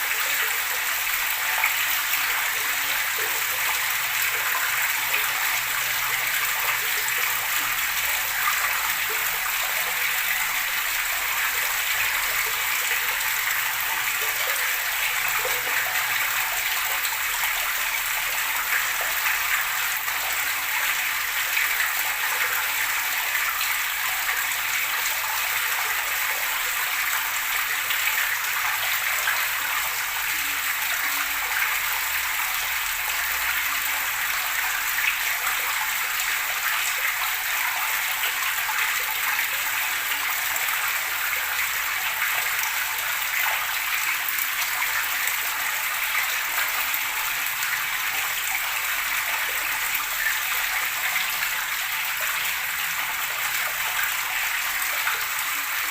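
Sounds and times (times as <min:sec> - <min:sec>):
babbling water: 0:00.0 - 0:55.9.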